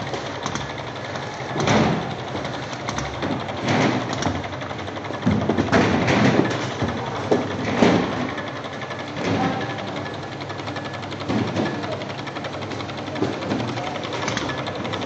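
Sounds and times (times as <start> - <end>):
labeling machine clatter: 0.0 - 15.0.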